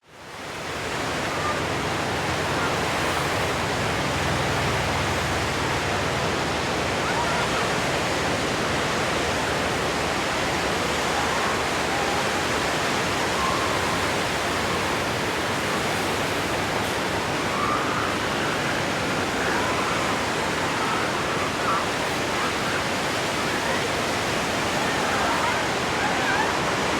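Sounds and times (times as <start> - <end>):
surf washing on beach: 0.0 - 26.9.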